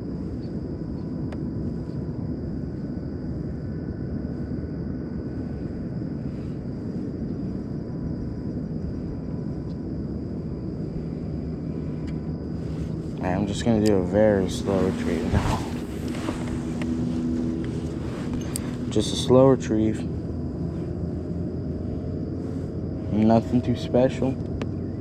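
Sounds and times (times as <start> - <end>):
faint thin steady tones: 0.0 - 25.0
low outdoor rumble: 0.0 - 25.0.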